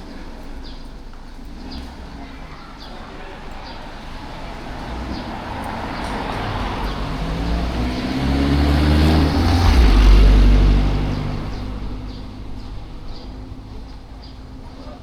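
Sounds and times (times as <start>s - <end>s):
motor vehicle passing by: 0.1s - 15.0s.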